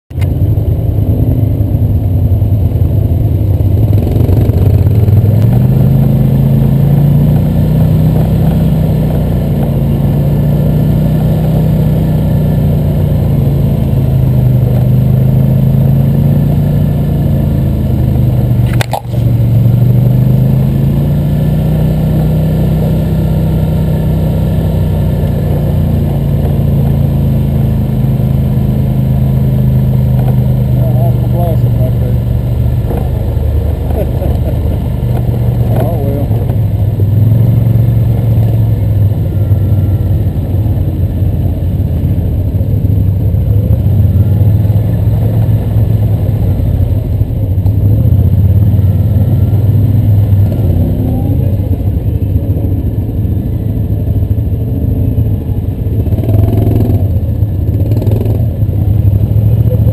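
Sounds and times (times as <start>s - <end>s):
quad bike engine running: 0.1s - 59.9s.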